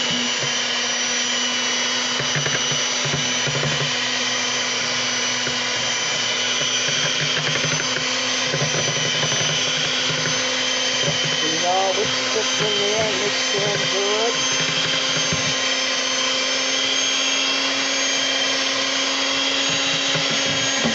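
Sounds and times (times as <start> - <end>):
electric hand mixer running: 0.0 - 20.9.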